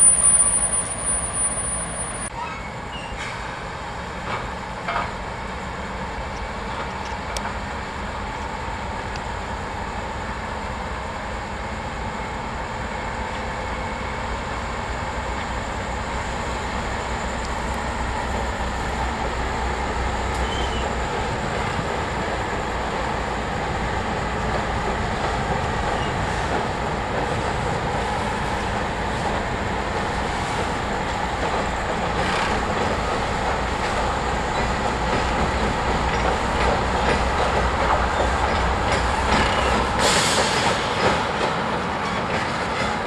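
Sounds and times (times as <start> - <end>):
diesel locomotives rumbling under load: 0.0 - 43.0.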